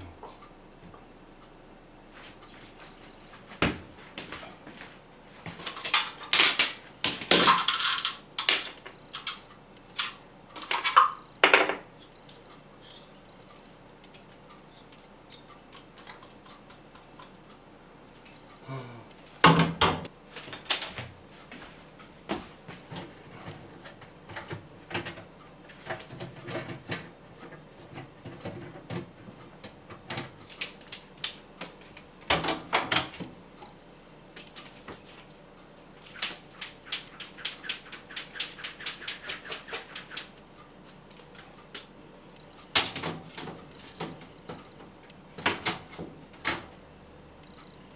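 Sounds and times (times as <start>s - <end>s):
fan parts clicking and rattling: 2.2s - 47.9s.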